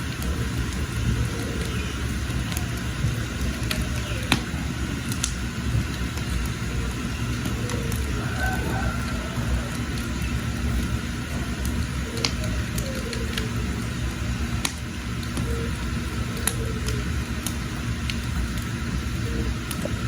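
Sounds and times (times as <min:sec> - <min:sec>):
fire crackles and pops: 0:00.0 - 0:20.0
wood fire rumbling: 0:00.0 - 0:20.0.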